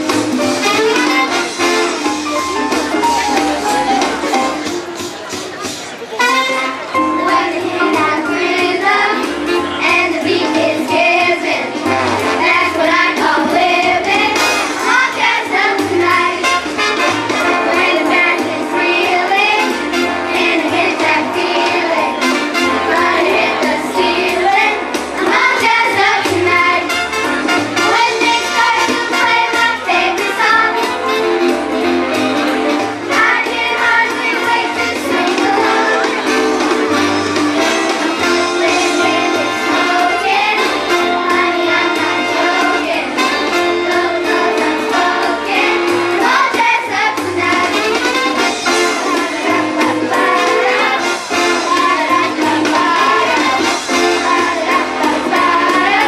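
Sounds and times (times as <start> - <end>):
musical accompaniment with bass: 0.0 - 56.0
children's choir singing: 6.9 - 56.0.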